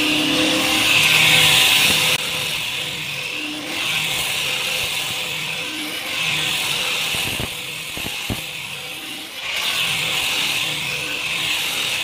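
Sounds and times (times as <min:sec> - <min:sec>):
angle grinder sanding wood: 0:00.0 - 0:12.0.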